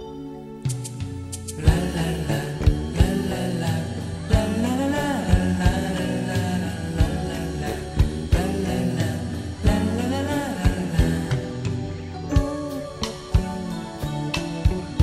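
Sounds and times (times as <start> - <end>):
guitar: 0.0 - 15.0
person singing: 0.0 - 15.0
steady drum beat: 0.7 - 15.0.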